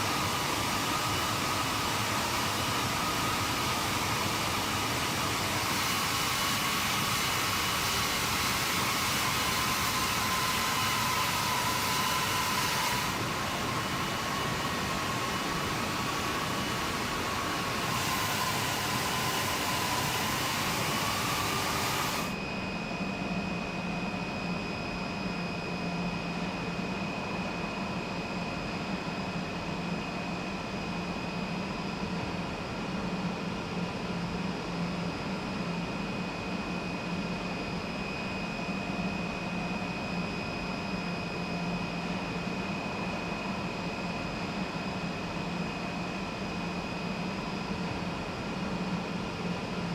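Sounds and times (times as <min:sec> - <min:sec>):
machinery hum with high whine: 0:00.0 - 0:49.9.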